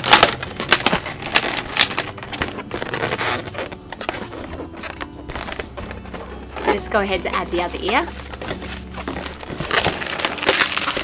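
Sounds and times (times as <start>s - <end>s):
balloons squeaking and rubbing: 0.0s - 11.0s.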